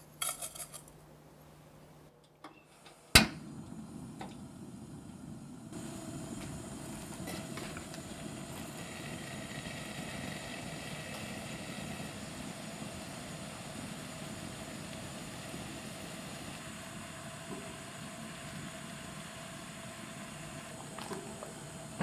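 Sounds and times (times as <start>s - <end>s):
syrup bubbling in a saucepan: 3.6s - 22.0s.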